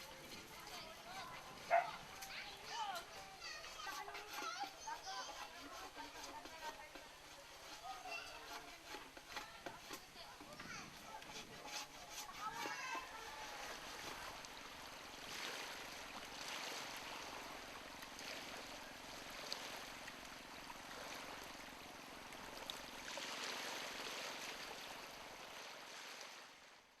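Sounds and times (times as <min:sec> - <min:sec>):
small waves washing on a beach: 0:00.0 - 0:27.0.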